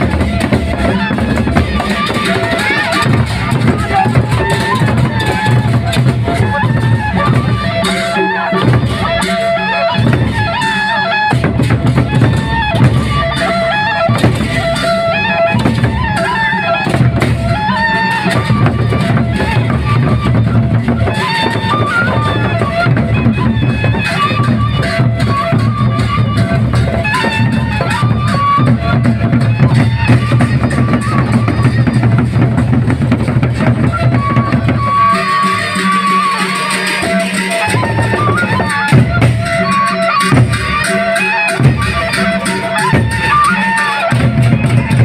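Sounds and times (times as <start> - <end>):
busy percussion: 0.0 - 45.0
large drums beating: 0.0 - 45.0.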